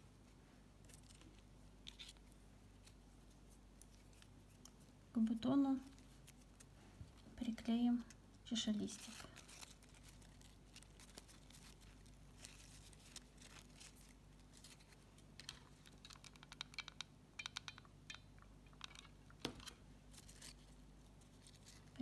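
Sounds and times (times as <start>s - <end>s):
ribbon rustling: 0.8s - 16.2s, 19.4s - 22.0s.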